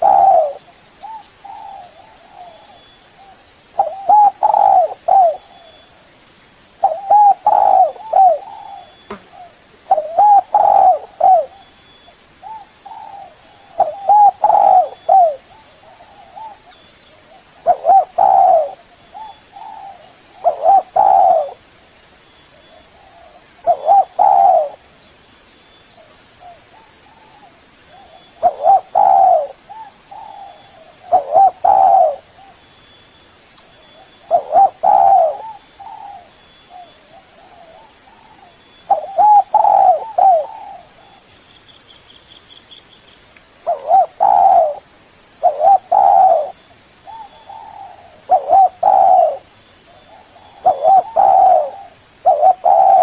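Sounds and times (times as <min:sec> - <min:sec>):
dove cooing: 0:00.0 - 0:06.0, 0:06.8 - 0:11.8, 0:12.4 - 0:21.6, 0:22.6 - 0:24.9, 0:26.0 - 0:32.6, 0:33.9 - 0:41.3, 0:43.6 - 0:44.8, 0:45.4 - 0:53.0.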